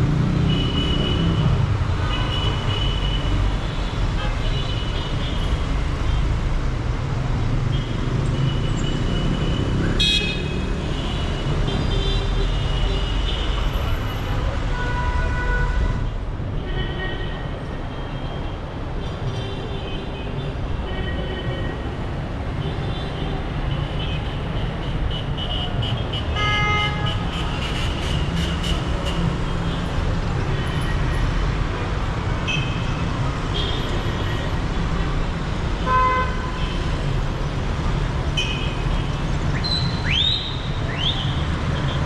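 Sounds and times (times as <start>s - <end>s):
traffic engines rumbling: 0.0s - 42.0s.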